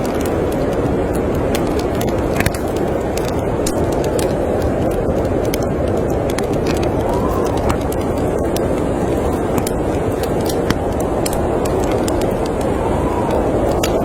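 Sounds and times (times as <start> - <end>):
snowstorm wind rushing: 0.0 - 14.0
wood fire crackling: 0.0 - 14.0.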